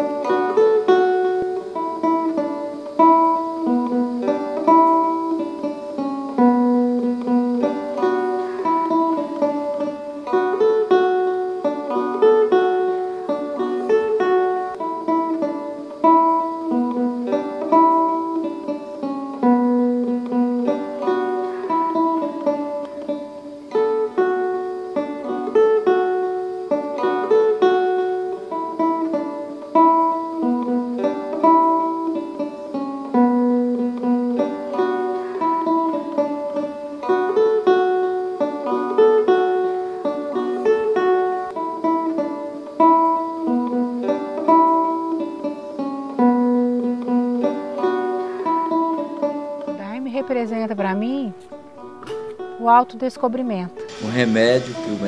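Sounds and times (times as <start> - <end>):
acoustic guitar plucked melody: 0.0 - 55.0.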